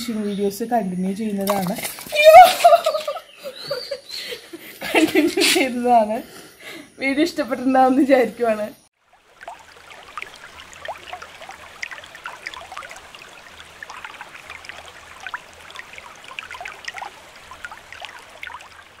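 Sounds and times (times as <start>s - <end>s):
water trickling and babbling: 0.0s - 19.0s.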